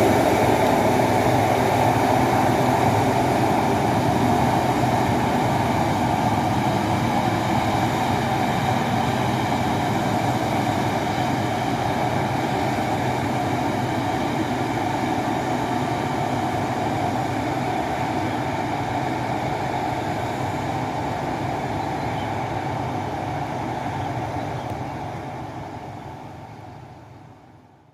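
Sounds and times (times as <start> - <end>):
truck diesel engine under load: 0.0 - 27.9.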